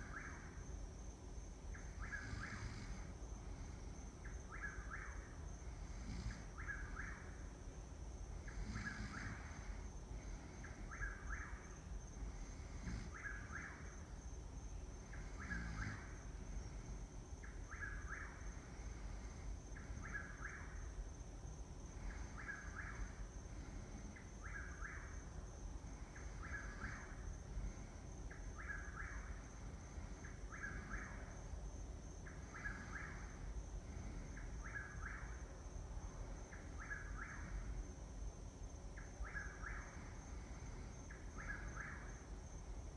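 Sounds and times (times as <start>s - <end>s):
bird calling at night: 0.0s - 42.9s
faint high whine: 0.0s - 42.9s.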